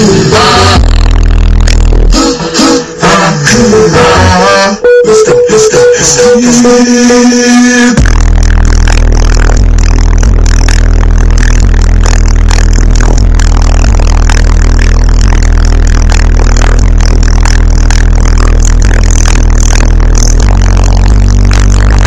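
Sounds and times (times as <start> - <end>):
loud deep bass from car subwoofers: 0.0 - 22.0.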